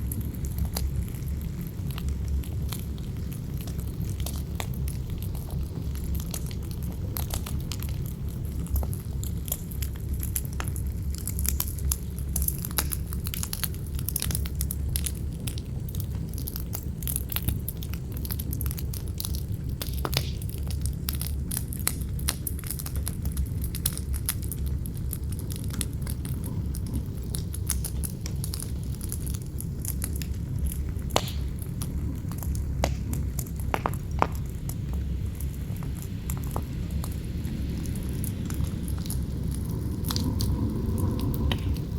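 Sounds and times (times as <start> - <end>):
campfire crackling and popping: 0.0 - 41.9
low rumble of wind: 0.0 - 41.9.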